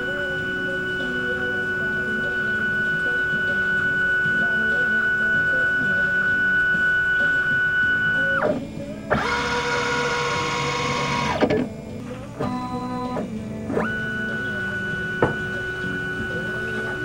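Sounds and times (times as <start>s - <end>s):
scanner motor playing buzzy melody: 0.0s - 17.0s.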